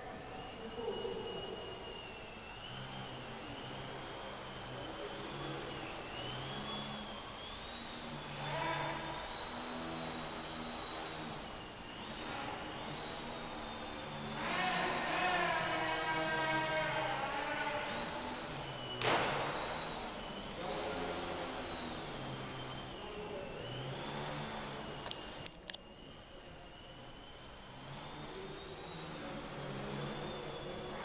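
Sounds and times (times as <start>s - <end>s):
model plane motor whining: 0.0s - 31.0s.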